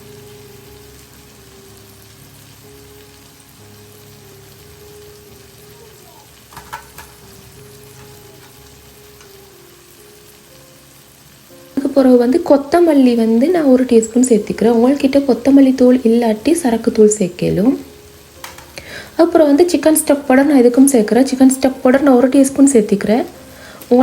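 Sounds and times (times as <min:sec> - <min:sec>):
soft background music: 0:00.0 - 0:24.0
vegetables sizzling in oil: 0:00.0 - 0:24.0.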